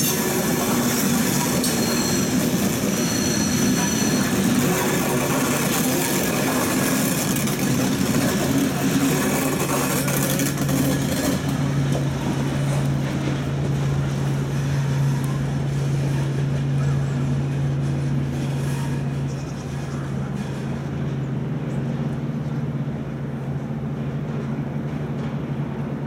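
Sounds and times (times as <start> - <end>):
train wheels rolling on rails: 0.0 - 26.0.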